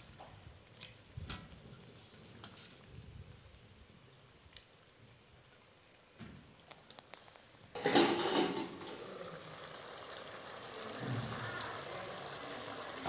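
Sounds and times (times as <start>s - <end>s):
curry bubbling in a pot: 0.4s - 13.0s.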